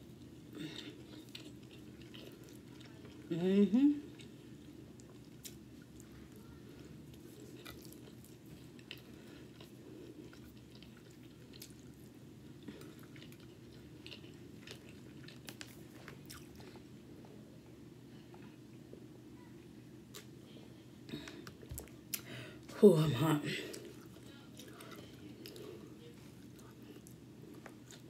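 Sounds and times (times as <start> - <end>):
low room hum: 0.0 - 28.0
faint chewing: 0.1 - 3.3, 4.0 - 17.4, 20.1 - 22.7, 23.6 - 28.0.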